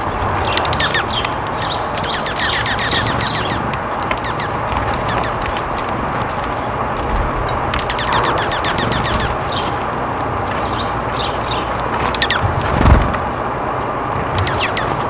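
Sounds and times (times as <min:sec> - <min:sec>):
rushing background noise: 0:00.0 - 0:15.0
small songbirds chirping: 0:00.0 - 0:15.0.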